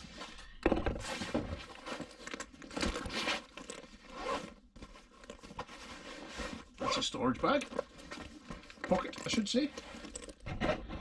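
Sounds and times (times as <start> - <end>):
packaging and bag rustling: 0.0 - 10.8.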